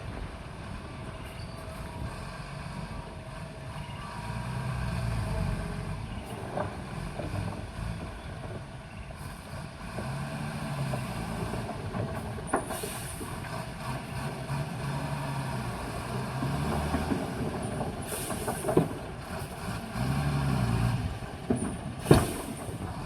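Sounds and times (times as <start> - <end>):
bulldozer diesel engine rumbling: 0.0 - 23.0.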